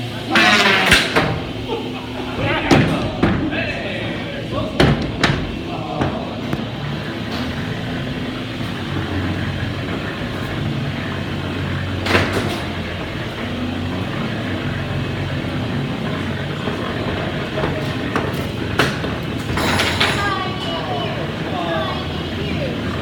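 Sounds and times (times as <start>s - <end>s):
electric motors humming: 0.0s - 23.0s.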